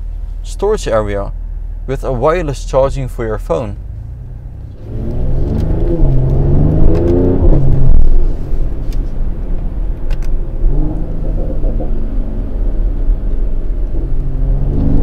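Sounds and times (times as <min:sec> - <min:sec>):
car engine running heard from cabin: 0:00.0 - 0:15.0.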